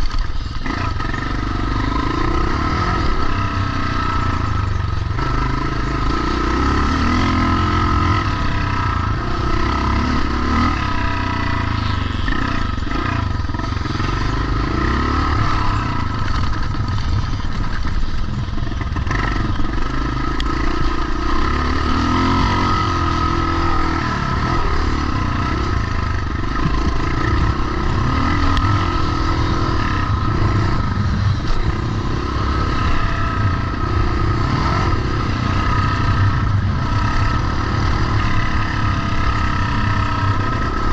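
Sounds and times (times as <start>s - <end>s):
motocross motorcycles revving: 0.0s - 40.9s.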